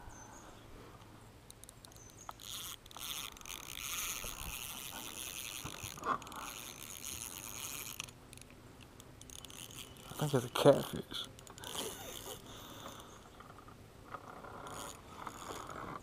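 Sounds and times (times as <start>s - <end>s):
fishing reel gears rasping: 1.5s - 16.0s.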